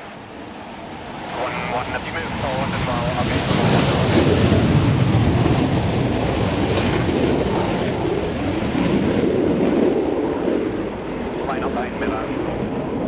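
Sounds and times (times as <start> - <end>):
aircraft engine roar: 0.0 - 13.0.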